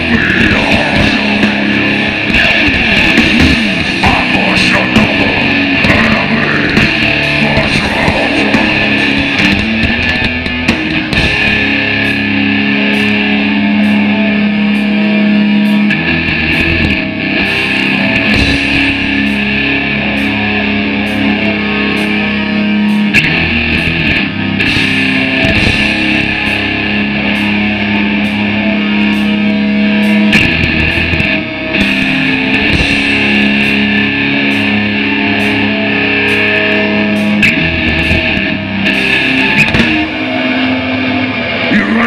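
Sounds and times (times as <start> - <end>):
drums and cymbals: 0.0 - 40.4
distorted electric guitars chugging: 0.0 - 42.0.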